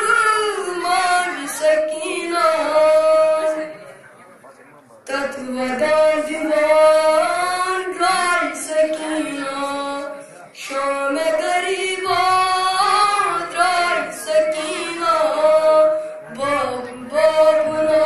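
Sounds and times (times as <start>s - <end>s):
boy singing unaccompanied: 0.0s - 3.8s, 5.1s - 18.0s.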